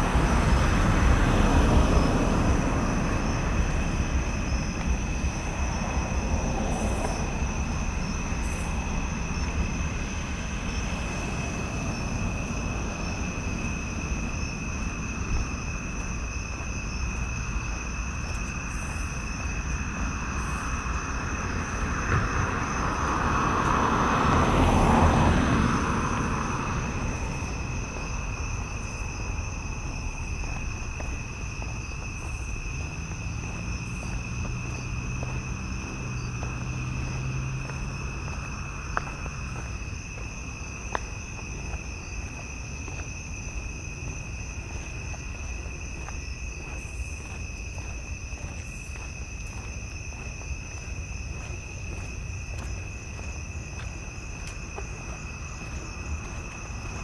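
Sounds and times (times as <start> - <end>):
crickets trilling: 0.0 - 57.0
low engine hum: 0.0 - 57.0
vehicle passing: 0.0 - 57.0.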